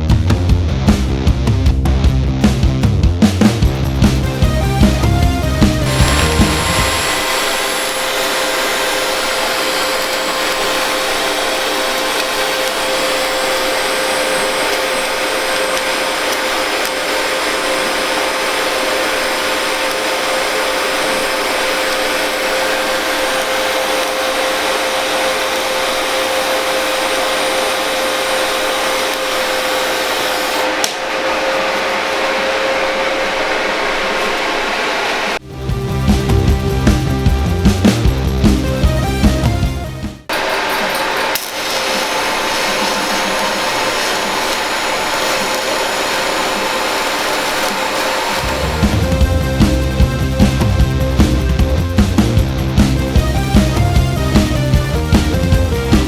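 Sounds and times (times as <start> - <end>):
electric power tool whining: 3.7 - 56.0.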